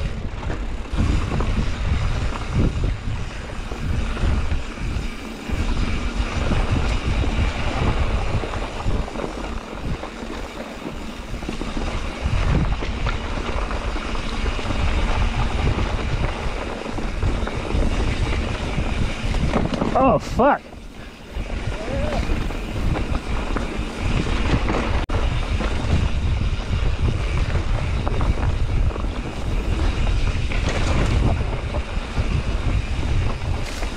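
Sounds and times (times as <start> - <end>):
bike tyres rolling over dirt: 0.0 - 33.9
wind rushing over microphone: 0.0 - 33.9.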